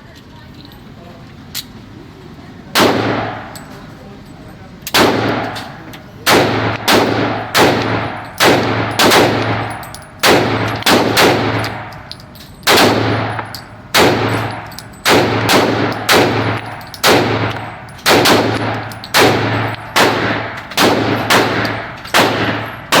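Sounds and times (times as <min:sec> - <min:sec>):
handgun shots with echo: 0:02.8 - 0:03.6, 0:04.9 - 0:23.0.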